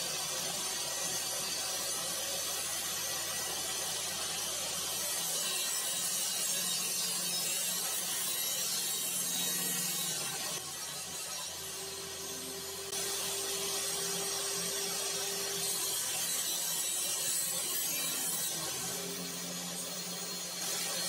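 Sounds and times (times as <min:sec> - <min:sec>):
saw blade cutting plywood: 0:00.0 - 0:21.0
table saw running: 0:00.0 - 0:21.0.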